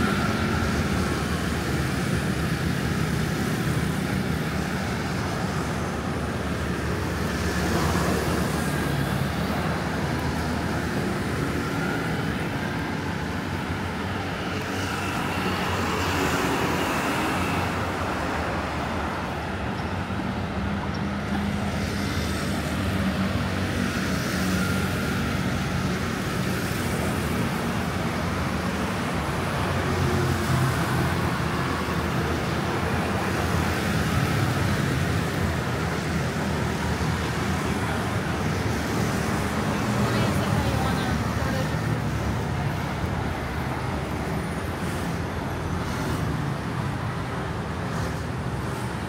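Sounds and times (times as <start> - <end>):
cars and scooters passing: 0.0 - 49.0.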